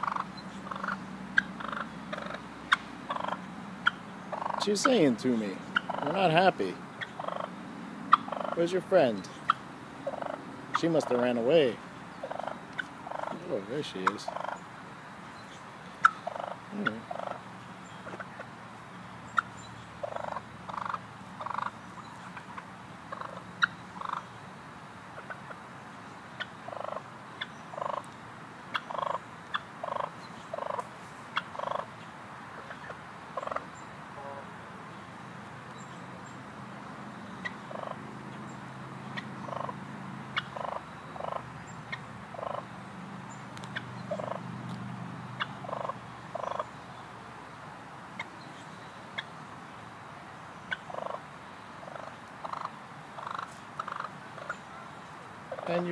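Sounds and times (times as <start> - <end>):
turkeys calling: 0.0 - 18.6, 19.2 - 24.4, 25.1 - 44.5, 45.3 - 47.1, 48.1 - 49.4, 50.6 - 55.9.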